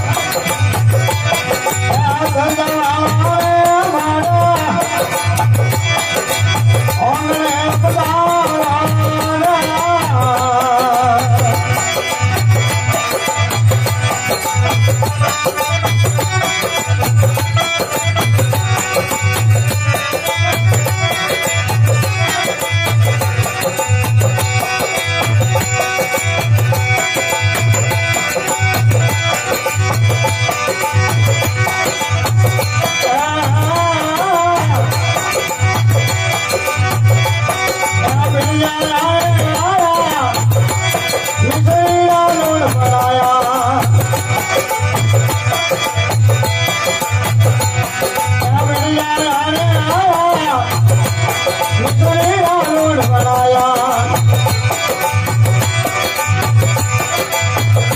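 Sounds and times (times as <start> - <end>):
folk devotional music: 0.0 - 57.9.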